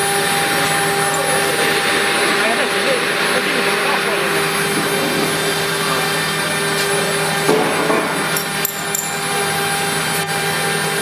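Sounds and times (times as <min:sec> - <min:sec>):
router spindle engraving: 0:00.0 - 0:11.0.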